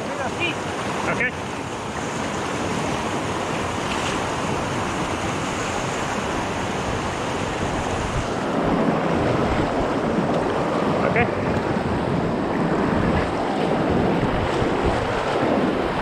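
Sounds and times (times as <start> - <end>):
whitewater rushing over rocks: 0.0 - 16.0.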